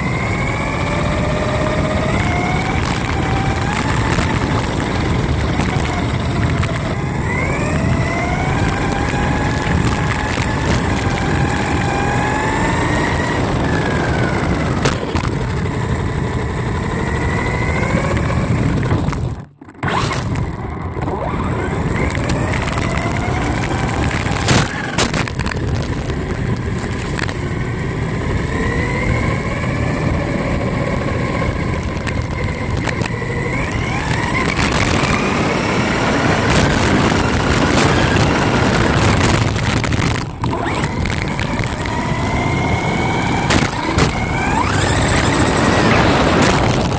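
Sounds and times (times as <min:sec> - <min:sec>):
electric motor whine: 0:00.0 - 0:46.9
tyres rumbling on rough pavement: 0:00.0 - 0:46.9.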